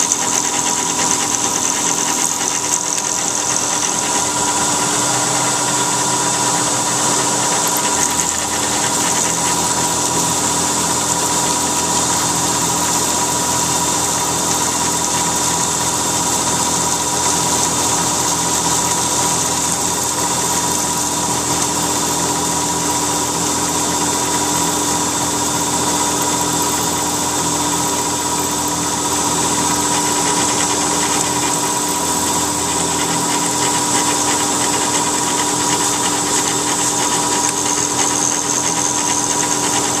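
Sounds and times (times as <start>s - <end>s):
milling machine spindle whine: 0.0s - 40.0s.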